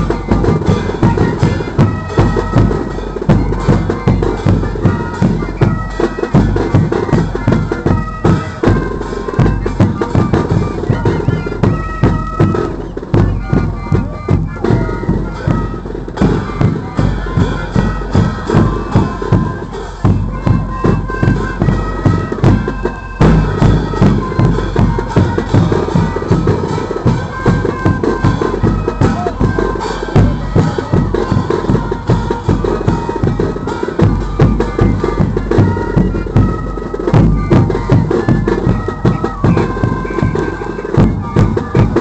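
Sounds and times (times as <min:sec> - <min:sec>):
cymbals clashing: 0:00.0 - 0:13.2, 0:14.6 - 0:42.0
wind instruments melody: 0:00.0 - 0:42.0.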